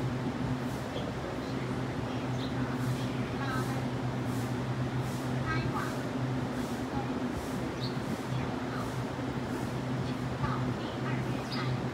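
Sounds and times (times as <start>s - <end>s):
low machine hum: 0.0s - 11.9s.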